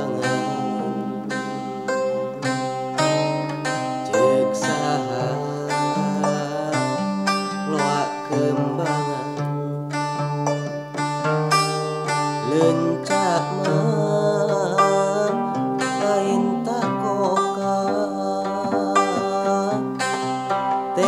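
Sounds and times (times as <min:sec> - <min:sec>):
man singing: 0:00.0 - 0:09.8, 0:11.5 - 0:21.0
plucked zither: 0:00.0 - 0:21.0.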